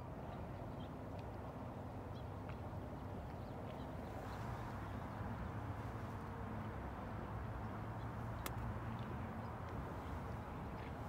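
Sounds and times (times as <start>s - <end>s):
river low rumble: 0.0s - 11.0s.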